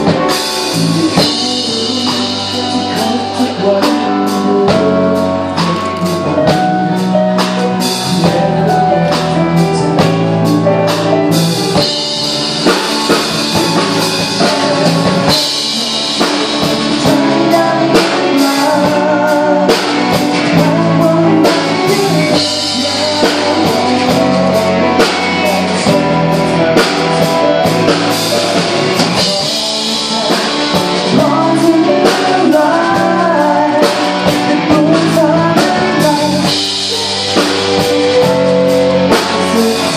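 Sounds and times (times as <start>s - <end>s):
electric guitars: 0.0s - 39.9s
live rock band: 0.0s - 39.9s
man singing: 0.0s - 39.9s
steady drum beat: 0.0s - 39.9s.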